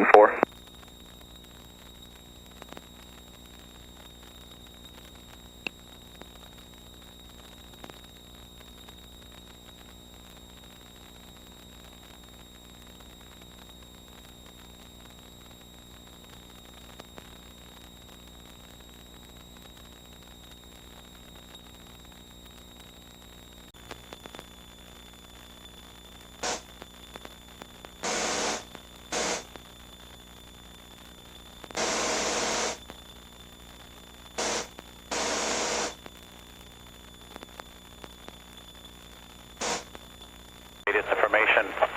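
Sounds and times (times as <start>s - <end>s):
radio hiss and hum: 0.0s - 41.9s.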